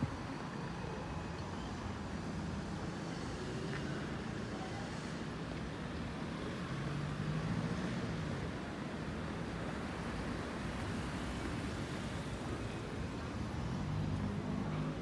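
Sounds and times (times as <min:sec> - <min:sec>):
cars driving slowly past: 0:00.0 - 0:15.0.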